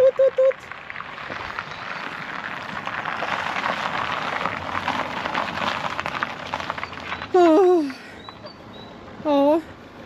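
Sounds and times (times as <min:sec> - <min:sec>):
tyres crunching over icy gravel: 0:00.2 - 0:08.8.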